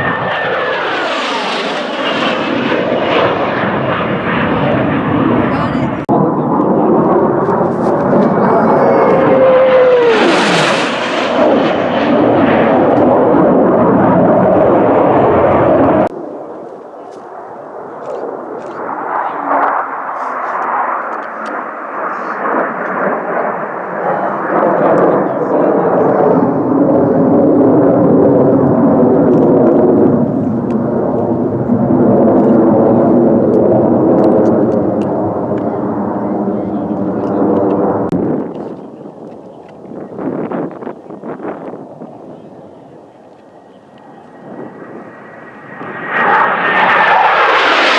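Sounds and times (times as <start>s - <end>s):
aircraft engine flying over: 0.0s - 47.9s
airplane passing low overhead: 0.0s - 47.9s.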